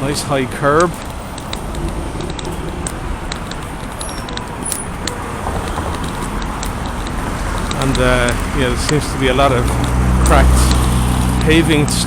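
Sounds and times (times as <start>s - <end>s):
cane tip clicking on paving: 0.0s - 12.0s
road traffic rumble: 0.0s - 12.0s.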